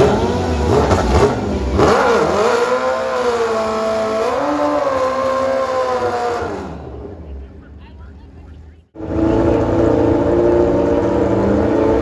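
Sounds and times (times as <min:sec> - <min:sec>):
racing engine revving hard: 0:00.0 - 0:07.4, 0:09.0 - 0:12.0.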